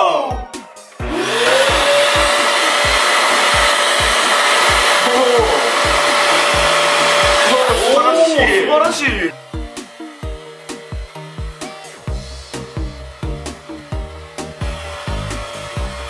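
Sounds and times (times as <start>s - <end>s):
air rushing through vacuum wand: 1.0s - 8.4s, 9.4s - 16.0s
vacuum cleaner motor whine: 1.0s - 16.0s.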